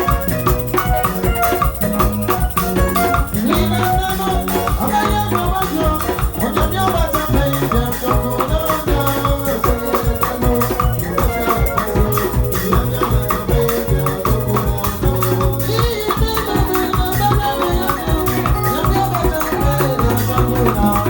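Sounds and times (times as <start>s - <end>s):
music with drums: 0.0s - 21.0s
shaker rattling: 0.0s - 21.0s.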